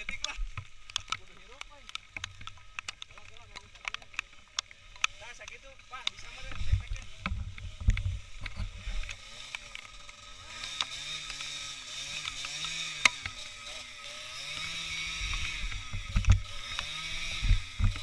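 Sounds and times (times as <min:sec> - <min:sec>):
small motorcycle engine revving: 0:00.0 - 0:18.0.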